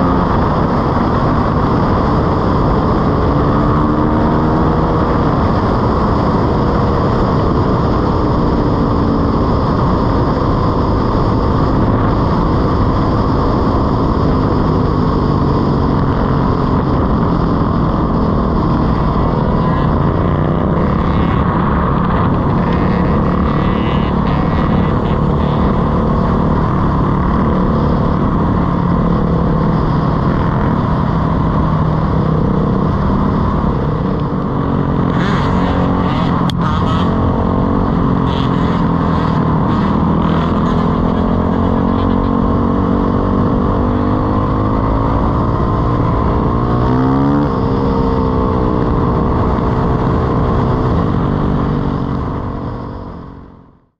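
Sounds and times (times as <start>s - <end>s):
dirt bike engine running: 0.0s - 53.7s
wind noise on microphone: 0.0s - 53.9s.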